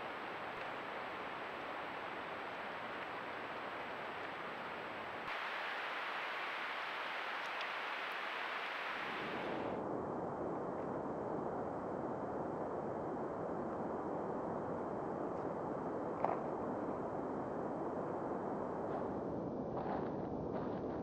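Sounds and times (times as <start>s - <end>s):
outdoor background hiss: 0.0s - 18.8s.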